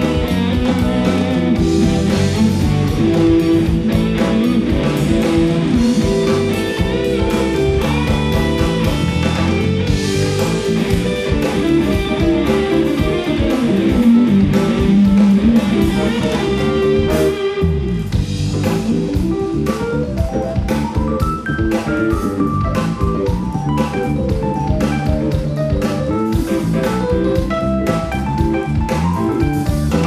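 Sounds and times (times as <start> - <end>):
bass guitar: 0.0 - 30.0
drum kit: 0.0 - 30.0
electric guitar lead lines: 0.0 - 30.0
keyboards: 0.0 - 30.0.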